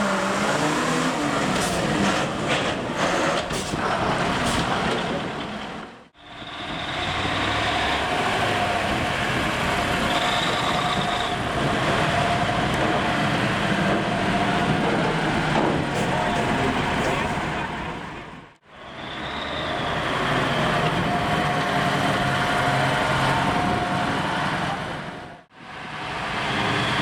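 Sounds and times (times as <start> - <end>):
truck engines running: 0.0 - 27.0.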